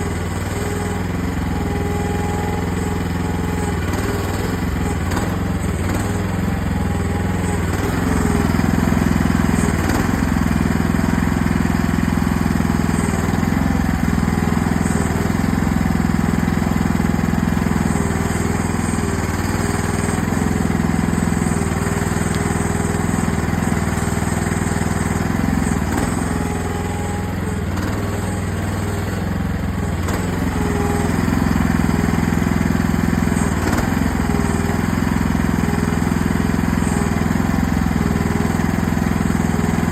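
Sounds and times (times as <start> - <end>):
small excavator engine running: 0.0 - 39.9.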